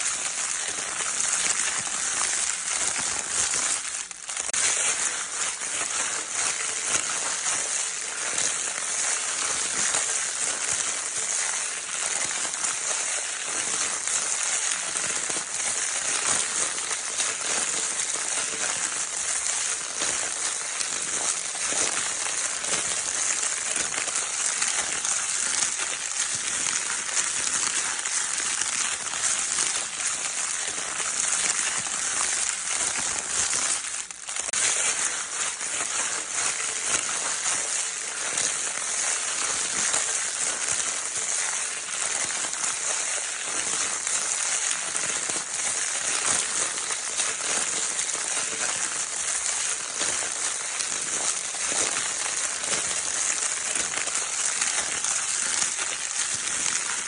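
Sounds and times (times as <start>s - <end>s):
crinkle paper crackling: 0.0s - 57.0s.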